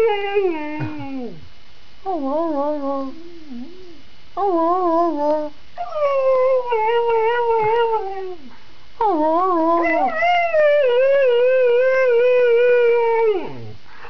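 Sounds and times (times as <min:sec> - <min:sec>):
dog howling: 0:02.1 - 0:13.7.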